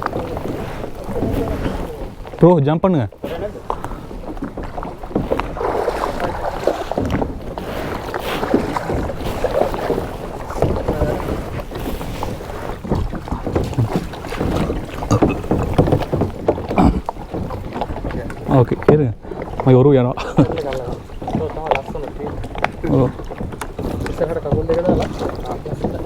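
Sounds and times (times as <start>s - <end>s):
wind rumbling on microphone: 0.0s - 2.4s, 3.0s - 26.0s
water splashing around kayak: 0.0s - 26.0s.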